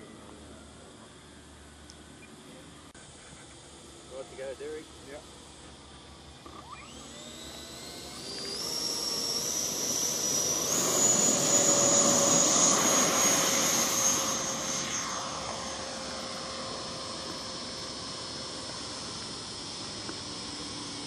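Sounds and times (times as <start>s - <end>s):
electric ducted fan whine: 0.0s - 21.0s.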